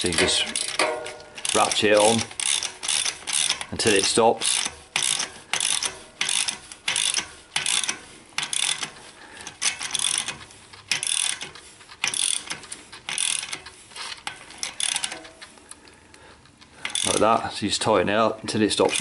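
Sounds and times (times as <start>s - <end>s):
ratchet handle clicking: 0.0s - 15.8s, 16.5s - 17.4s, 18.8s - 19.0s.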